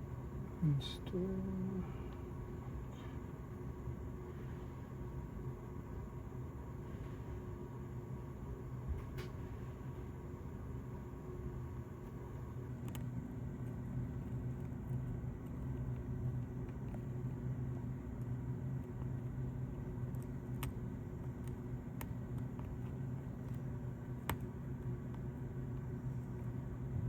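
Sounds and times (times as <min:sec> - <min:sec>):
equipment humming: 0:00.0 - 0:27.0.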